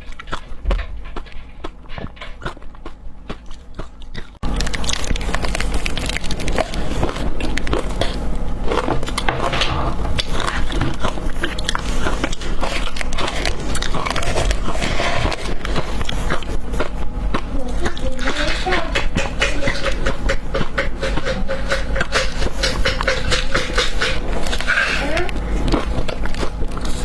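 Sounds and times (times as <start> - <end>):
ice crunching between teeth: 1.2 - 27.0.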